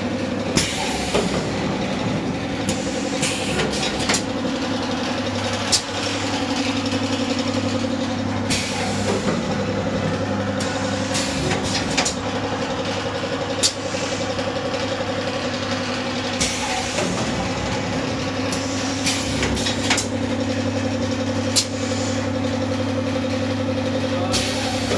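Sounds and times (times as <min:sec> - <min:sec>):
machine motor hum: 0:00.0 - 0:24.9.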